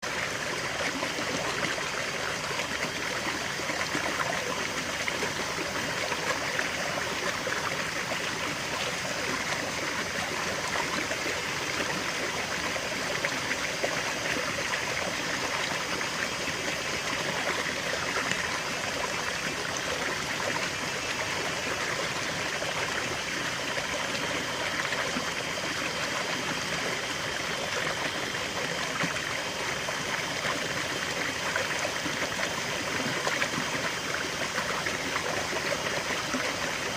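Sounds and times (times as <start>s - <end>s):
stream trickling over stones: 0.0s - 36.9s.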